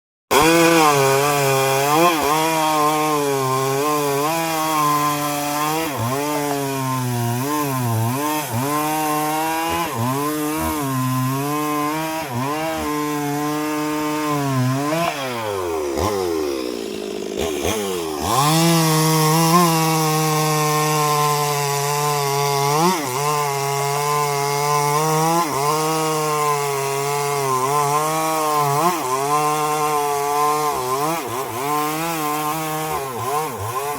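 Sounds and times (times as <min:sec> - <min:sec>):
chainsaw cutting wood: 0:00.3 - 0:33.9.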